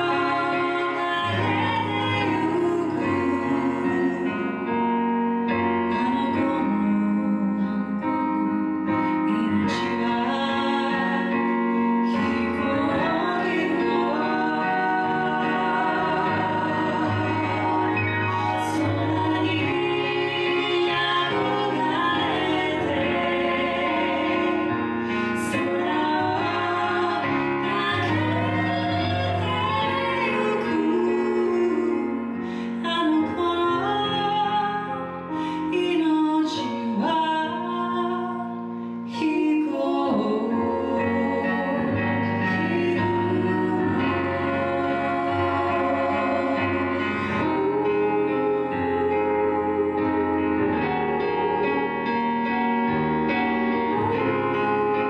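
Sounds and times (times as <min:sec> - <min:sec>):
stage piano: 0:00.0 - 0:55.0
women singing a slow ballad: 0:00.0 - 0:55.0.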